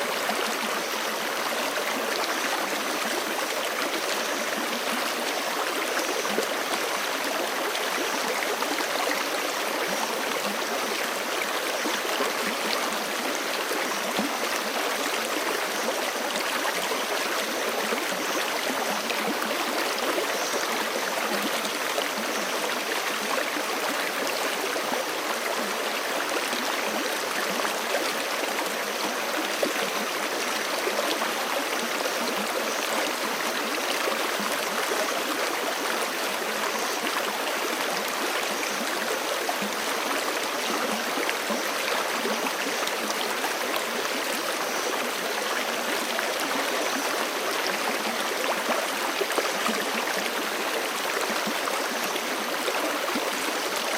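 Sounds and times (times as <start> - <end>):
creek flowing over rocks: 0.0 - 53.9.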